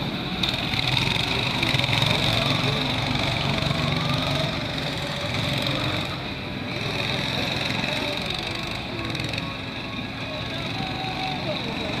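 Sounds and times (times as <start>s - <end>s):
go-kart engines: 0.0s - 12.0s.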